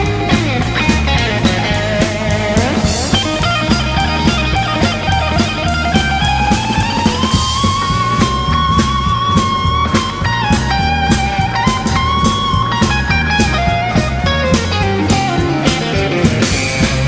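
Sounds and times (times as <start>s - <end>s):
bass: 0.0s - 17.0s
drums: 0.0s - 17.0s
electric guitar lead: 0.0s - 17.0s.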